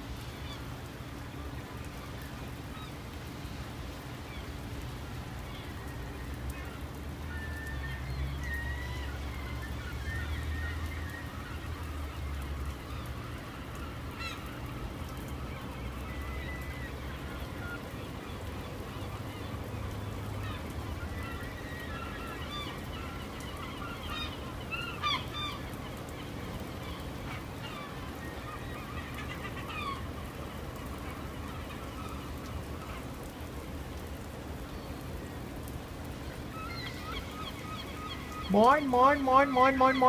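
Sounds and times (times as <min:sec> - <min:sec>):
low background noise: 0:00.0 - 0:40.0
gulls squawking: 0:05.4 - 0:35.4, 0:36.2 - 0:40.0.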